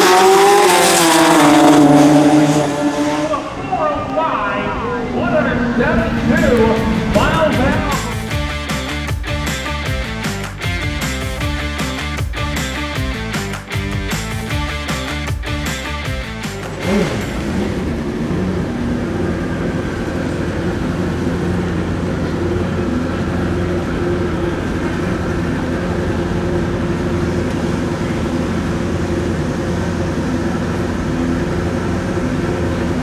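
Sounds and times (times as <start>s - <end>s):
motorcycle engine idling: 6.0s - 32.9s.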